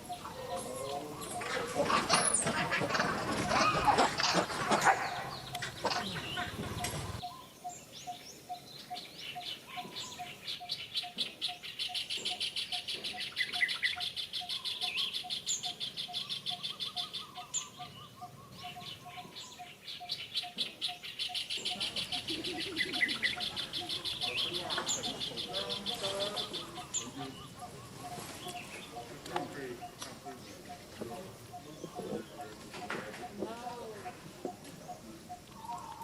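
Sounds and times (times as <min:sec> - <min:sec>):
bird chirps: 0:00.0 - 0:36.0.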